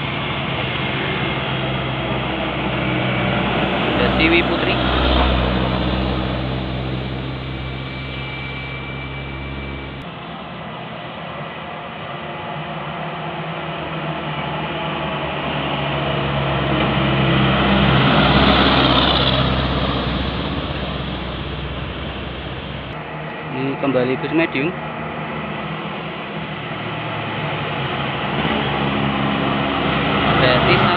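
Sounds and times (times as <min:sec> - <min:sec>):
bus engine passing by: 0:00.0 - 0:30.9
bus road noise and engine hum: 0:00.0 - 0:30.9.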